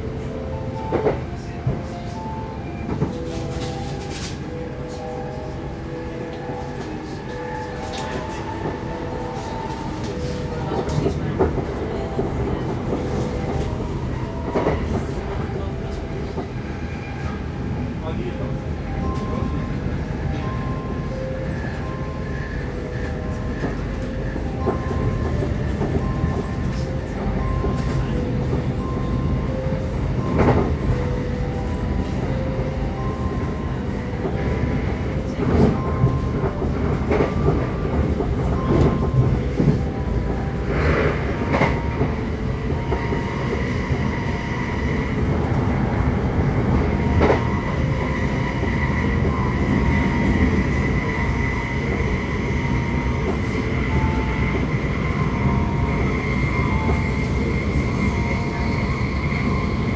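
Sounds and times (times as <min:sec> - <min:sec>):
steady high tone: 0:00.0 - 0:59.9
train low rumble: 0:00.0 - 0:59.9.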